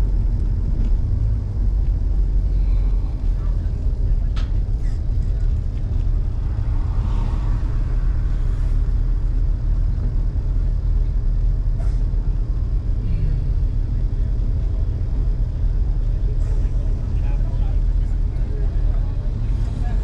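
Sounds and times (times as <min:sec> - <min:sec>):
car engine low rumble: 0:00.0 - 0:20.0.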